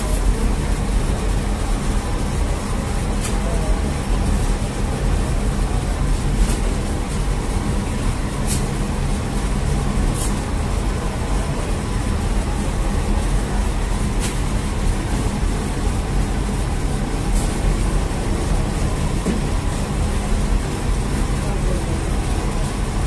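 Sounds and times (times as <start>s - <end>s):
low rumble of bakery machinery: 0.0s - 23.0s.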